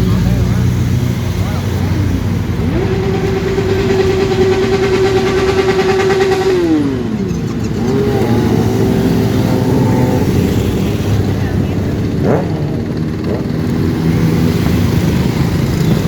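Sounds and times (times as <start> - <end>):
motorcycle engine revving: 0.0 - 16.0
other motorcycles rumbling: 0.0 - 16.0.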